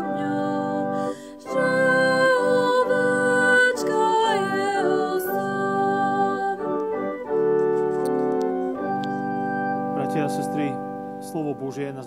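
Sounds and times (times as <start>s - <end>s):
organ playing hymn chords: 0.0s - 12.0s.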